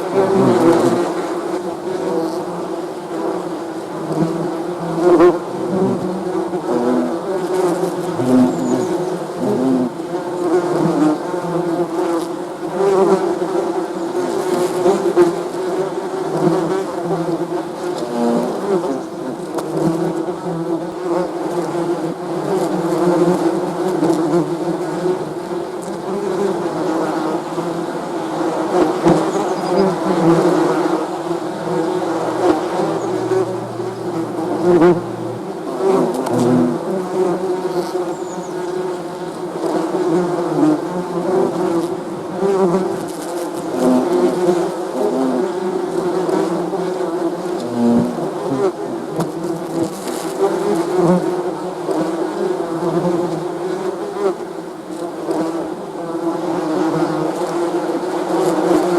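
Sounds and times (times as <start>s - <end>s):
bees buzzing: 0.0s - 48.2s
single bee passing close: 0.0s - 58.9s.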